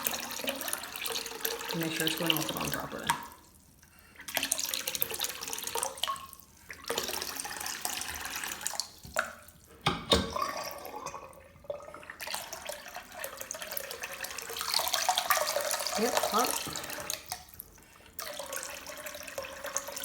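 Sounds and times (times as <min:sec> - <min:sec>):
water running from tap into sink: 0:00.0 - 0:03.6, 0:04.2 - 0:20.0.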